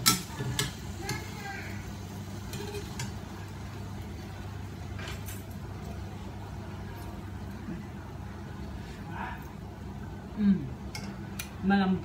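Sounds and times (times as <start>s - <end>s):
stove humming: 0.0s - 12.0s.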